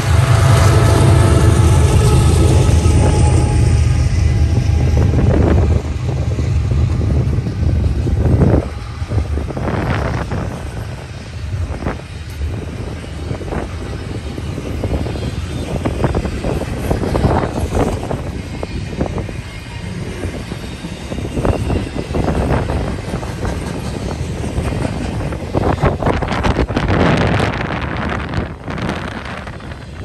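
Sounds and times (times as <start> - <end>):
locomotive low rumble: 0.0 - 30.0
train clunks and rattles: 0.0 - 30.0
train wheels rumbling over rails: 0.0 - 30.0.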